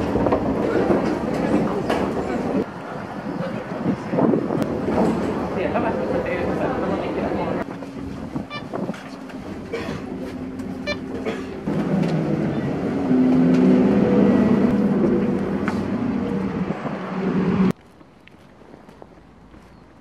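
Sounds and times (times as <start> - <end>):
bus engine droning: 0.0 - 17.7.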